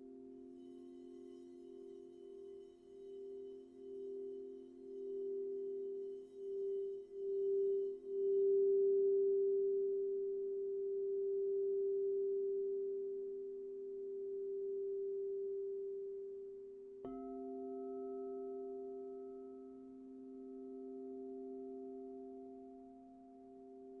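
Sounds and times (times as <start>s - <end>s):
singing bowls humming: 0.0s - 24.0s.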